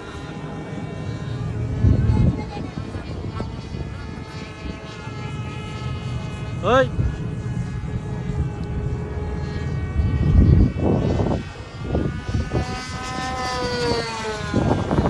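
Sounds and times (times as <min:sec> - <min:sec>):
heavy low rumble: 0:00.0 - 0:13.0
model aircraft engine whine: 0:00.0 - 0:15.0.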